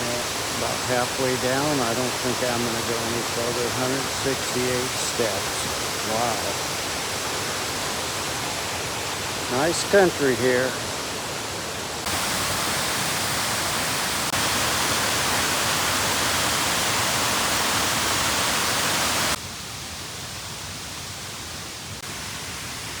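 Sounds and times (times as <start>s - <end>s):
waterfall rushing: 0.0s - 19.4s.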